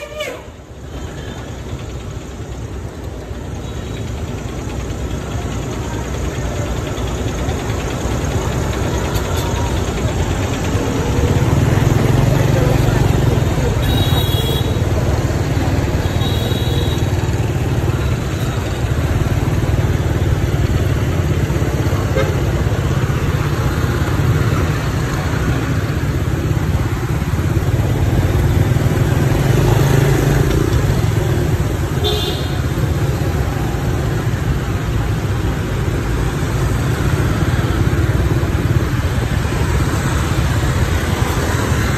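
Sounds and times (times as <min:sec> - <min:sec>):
motorbike engine rumble: 0:00.0 - 0:41.9.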